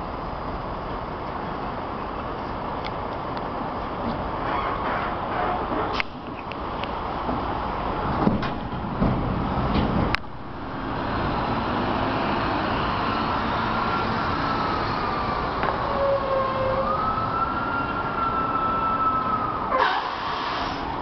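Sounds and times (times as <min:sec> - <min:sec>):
vehicle and road noise: 0:00.0 - 0:21.0.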